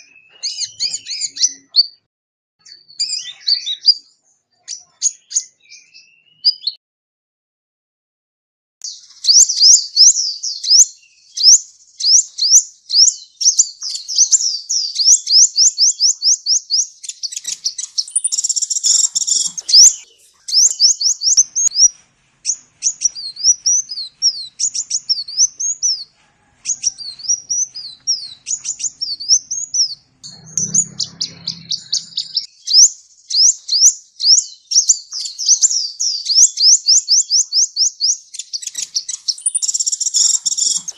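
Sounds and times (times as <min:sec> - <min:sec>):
sunbird singing high chirps: 0:00.0 - 0:02.0, 0:02.6 - 0:06.8, 0:08.8 - 0:40.9.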